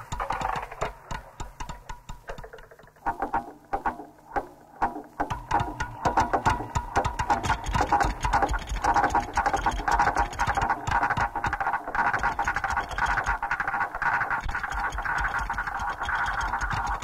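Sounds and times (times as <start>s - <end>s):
rapid clicking and clattering: 0.0s - 17.0s.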